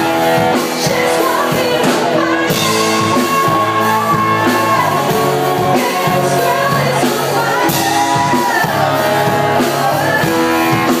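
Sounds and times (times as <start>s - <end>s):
bass guitar: 0.0s - 11.0s
drums: 0.0s - 11.0s
electric guitar: 0.0s - 11.0s
person singing into microphone: 0.0s - 11.0s.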